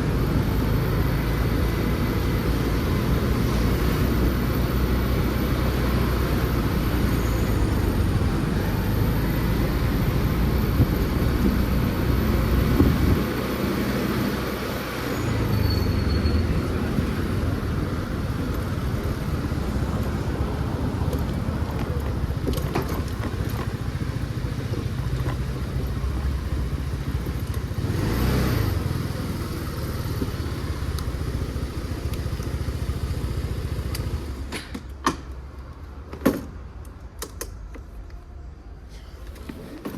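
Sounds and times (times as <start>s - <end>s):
motor scooter engine running: 0.0s - 34.5s
road and wind noise: 0.0s - 39.9s.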